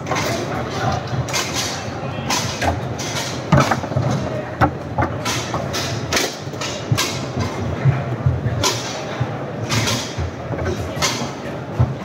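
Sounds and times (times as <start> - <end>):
foosball rods clacking: 0.0 - 8.0, 8.6 - 12.0.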